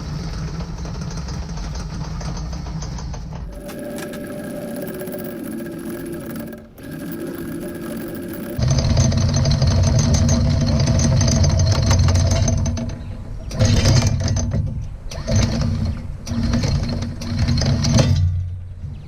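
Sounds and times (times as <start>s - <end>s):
anchor windlass pulling chain: 0.8s - 18.4s.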